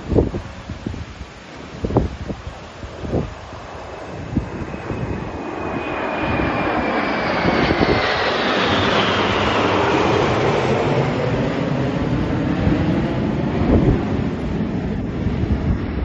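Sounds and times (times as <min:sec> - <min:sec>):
high jet whine: 0:00.0 - 0:16.0
jets flying past: 0:01.4 - 0:16.0.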